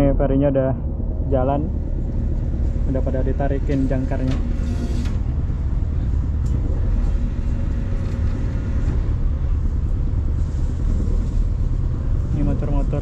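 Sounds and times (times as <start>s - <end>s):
faint steady hum: 0.0s - 13.0s
ferry engines rumbling: 0.0s - 13.0s.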